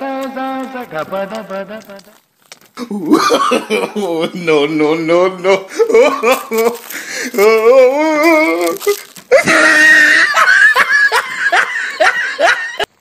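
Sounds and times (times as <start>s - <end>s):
person laughing: 0.7s - 2.2s, 2.8s - 13.0s.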